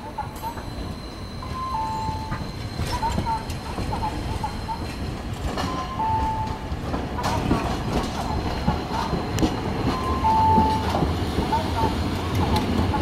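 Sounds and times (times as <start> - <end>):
streetcar rumbling: 0.0 - 13.0
wheel-on-rail clatter: 2.2 - 13.0.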